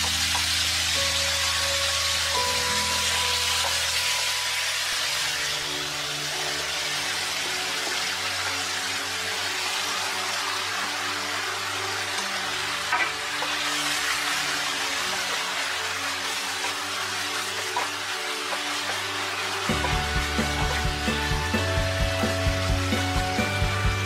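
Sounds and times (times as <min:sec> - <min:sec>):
food sizzling in frying pan: 0:00.0 - 0:24.0.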